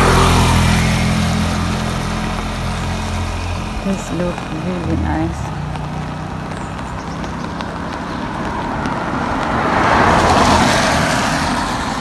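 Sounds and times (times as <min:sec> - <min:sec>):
car passing on wet road: 0:00.0 - 0:12.0.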